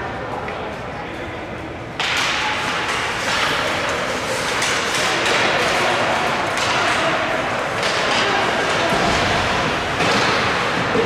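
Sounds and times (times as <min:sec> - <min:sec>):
crowd talking and shouting: 0:00.0 - 0:11.0.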